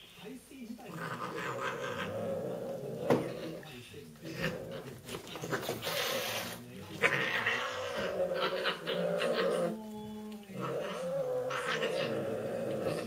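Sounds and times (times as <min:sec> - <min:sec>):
cats growling and yowling: 0:00.8 - 0:13.0.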